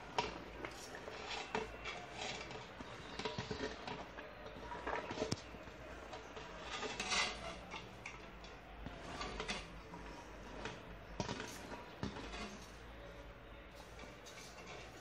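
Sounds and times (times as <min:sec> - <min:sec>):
rustling: 0:00.0 - 0:15.0
utensils clicking and clinking: 0:00.0 - 0:15.0.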